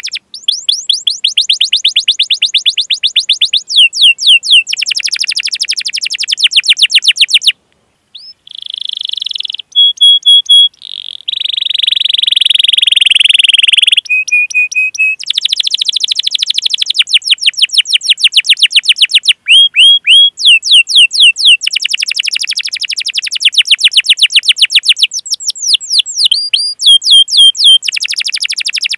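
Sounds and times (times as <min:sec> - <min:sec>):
canary singing: 0:00.0 - 0:28.9.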